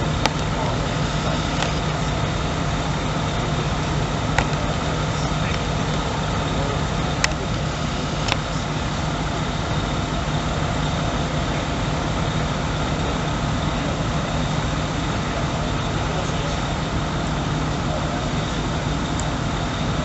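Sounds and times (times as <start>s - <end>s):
fire engine idling: 0.0s - 20.0s.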